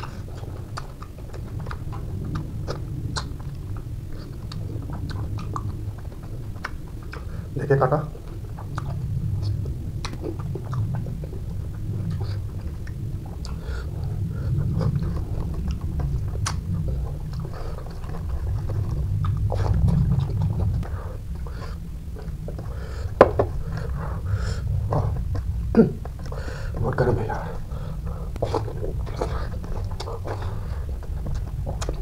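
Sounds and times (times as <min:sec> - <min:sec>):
close chewing with wet mouth clicks: 0:00.0 - 0:32.0.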